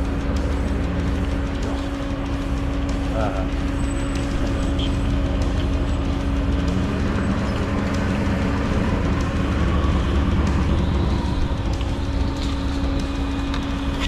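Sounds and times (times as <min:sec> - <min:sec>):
low rumble: 0:00.0 - 0:14.0
vehicle engine hum: 0:00.0 - 0:14.0.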